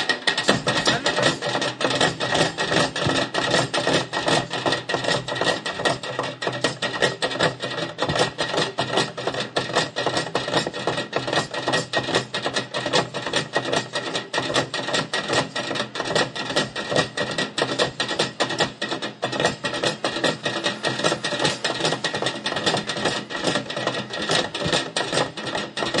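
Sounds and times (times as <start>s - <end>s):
drumming on plastic buckets: 0.0s - 26.0s.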